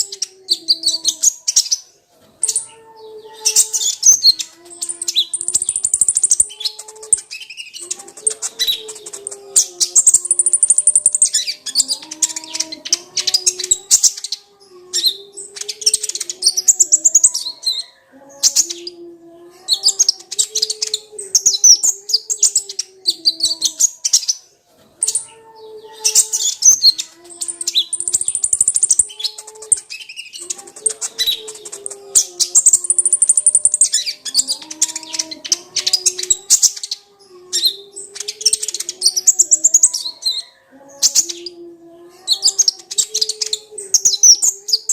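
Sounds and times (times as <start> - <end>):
sunbird chirping song: 0.0 - 19.1, 19.7 - 44.9.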